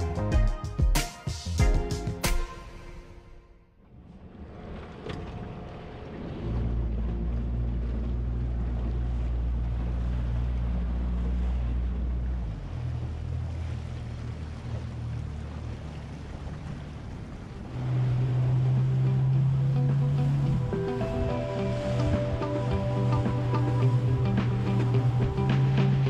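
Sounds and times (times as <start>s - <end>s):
wind: 0.0s - 26.0s
water rushing past hull: 2.2s - 26.0s
outboard motor drone: 3.8s - 26.0s.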